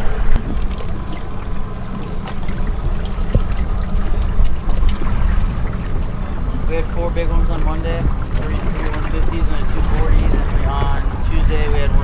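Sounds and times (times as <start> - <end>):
water sloshing against boat hull: 0.0 - 12.0
wind rumble on microphone: 0.0 - 12.0.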